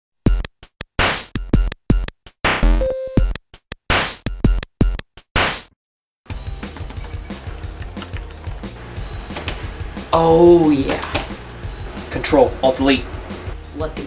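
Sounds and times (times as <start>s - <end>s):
drum machine hits: 0.3s - 5.6s, 6.3s - 14.0s.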